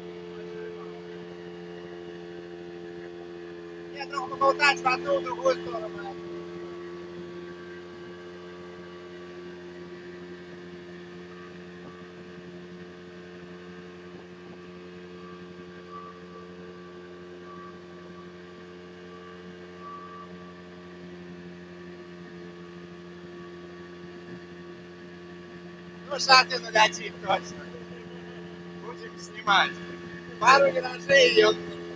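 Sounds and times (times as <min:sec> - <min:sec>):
motorboat engine humming: 0:00.0 - 0:31.9.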